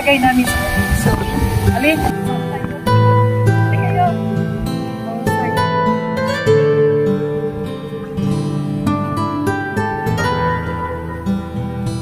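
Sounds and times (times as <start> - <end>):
acoustic guitar plucking and strumming: 0.0 - 12.0.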